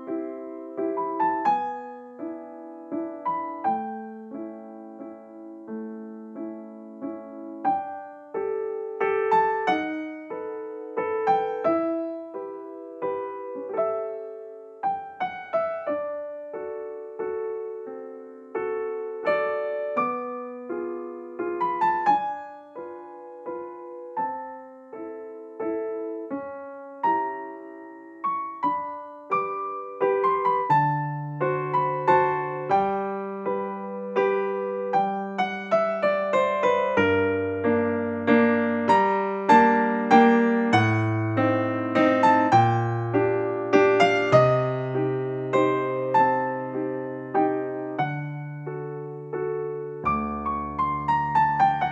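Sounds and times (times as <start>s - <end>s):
slow piano melody: 0.0s - 51.9s.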